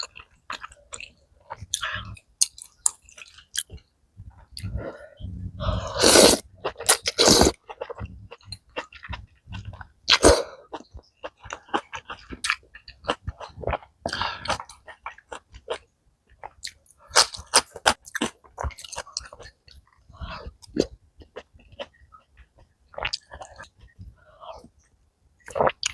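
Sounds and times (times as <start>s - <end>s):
person chewing: 0.0s - 24.0s.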